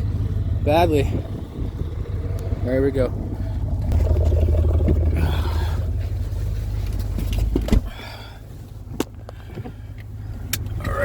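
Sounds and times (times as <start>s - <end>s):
car engine running hard: 0.0s - 11.0s.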